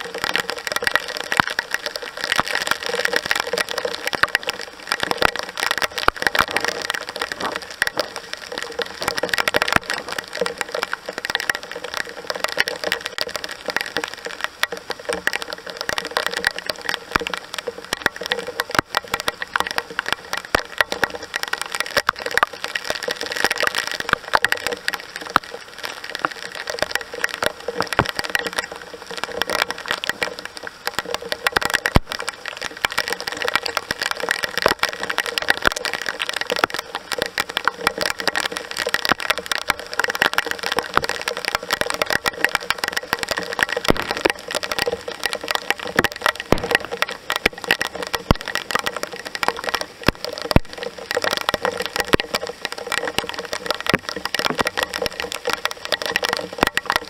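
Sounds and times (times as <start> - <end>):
heavy rain pouring: 0.0 - 57.0
rain drops impacting: 0.0 - 57.0.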